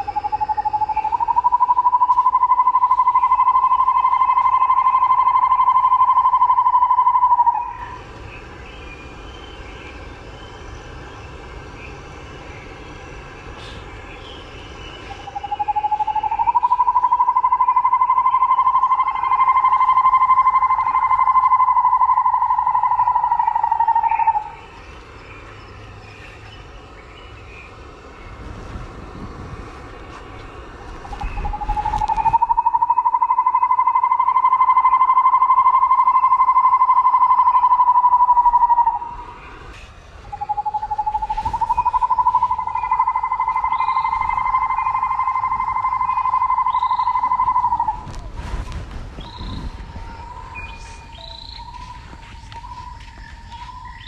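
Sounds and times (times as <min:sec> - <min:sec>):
cicada droning: 0:00.0 - 0:54.0.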